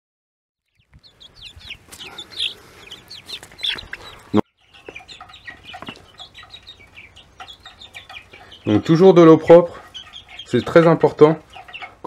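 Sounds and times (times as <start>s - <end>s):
chicks peeping: 0.6s - 12.0s.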